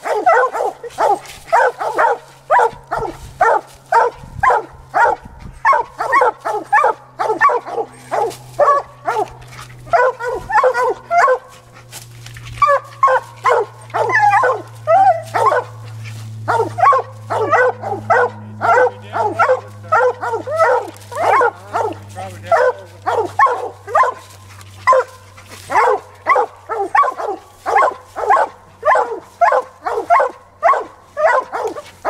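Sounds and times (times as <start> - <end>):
dog barking: 0.0 - 11.7, 12.6 - 32.0.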